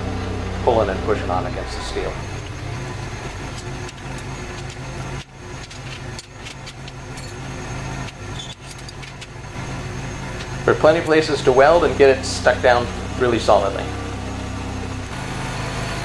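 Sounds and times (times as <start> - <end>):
welder electrical hum: 0.0 - 16.0
welder fan noise: 0.0 - 16.0.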